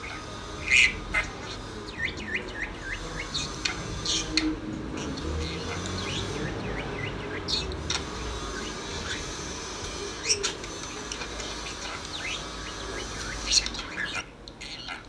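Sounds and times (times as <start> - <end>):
parrot chirping and twittering: 0.0 - 15.0.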